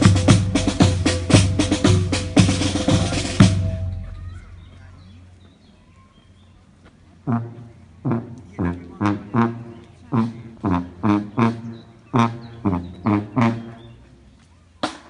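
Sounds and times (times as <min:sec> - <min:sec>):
marching snare and bass drums: 0:00.0 - 0:05.3, 0:07.3 - 0:15.0.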